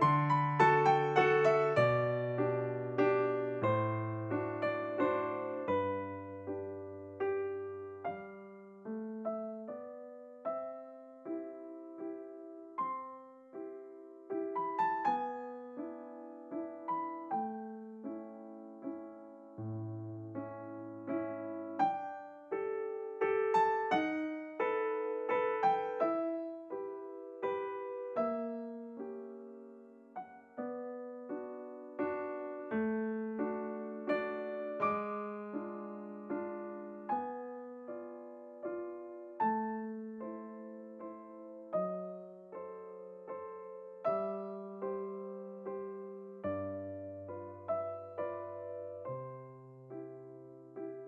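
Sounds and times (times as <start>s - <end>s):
solo piano music: 0.0s - 51.0s.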